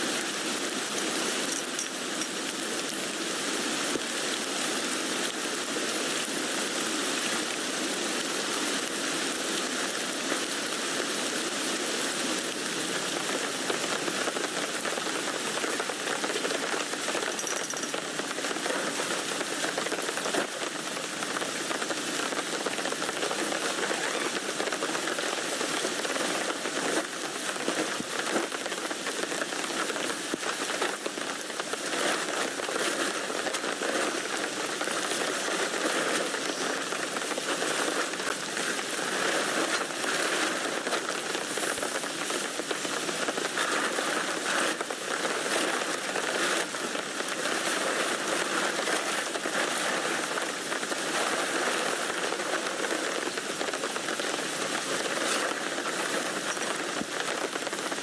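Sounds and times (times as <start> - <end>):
rain on a tent: 0.0 - 58.0.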